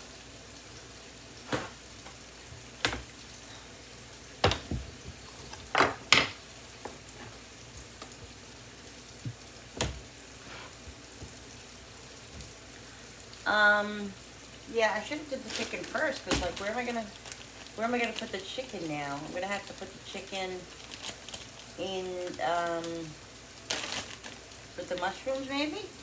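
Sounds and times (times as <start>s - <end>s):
mushrooms sizzling in frying pan: 0.0s - 26.0s.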